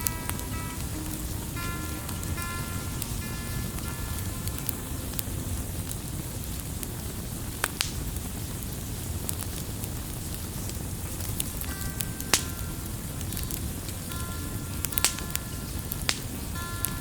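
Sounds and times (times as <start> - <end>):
fire popping: 0.0 - 17.0
wood fire crackling: 0.0 - 17.0.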